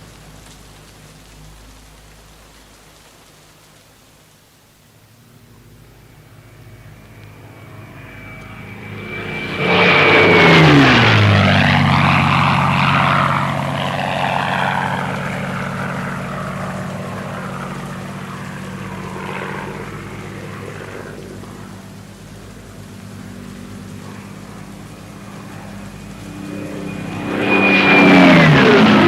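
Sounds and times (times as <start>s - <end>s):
propeller aircraft flying overhead: 5.0s - 29.0s.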